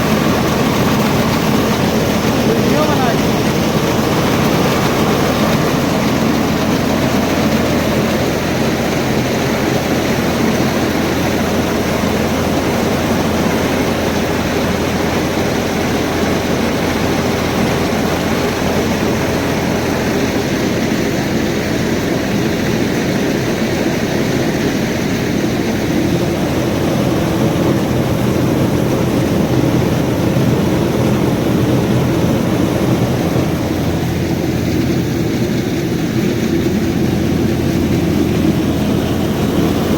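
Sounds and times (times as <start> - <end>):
rice huller machine noise: 0.0 - 39.9
tractor engine running: 0.0 - 39.9.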